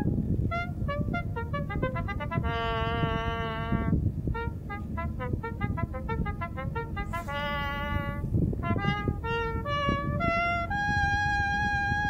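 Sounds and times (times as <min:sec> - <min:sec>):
low rumbling noise: 0:00.0 - 0:12.0
reedy wind instrument melody: 0:00.0 - 0:12.0.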